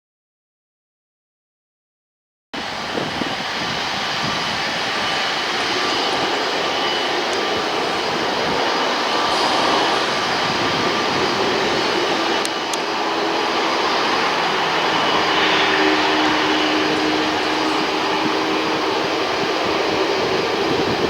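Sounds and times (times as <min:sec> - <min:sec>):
jet engines running: 0:02.6 - 0:21.0.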